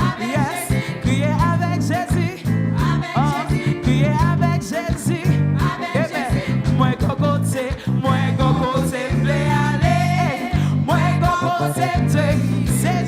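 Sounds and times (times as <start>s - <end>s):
band with bass and drums: 0.0s - 13.0s.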